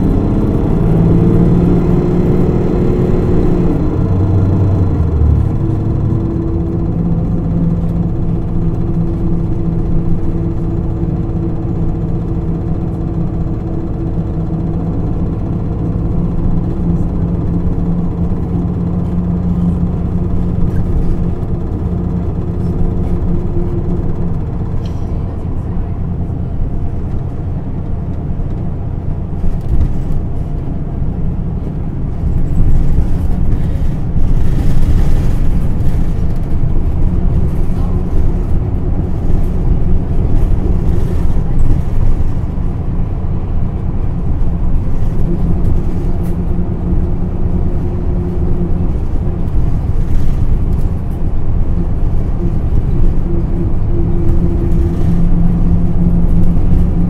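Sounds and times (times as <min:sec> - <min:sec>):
bus diesel engine and road rumble: 0:00.0 - 0:57.0.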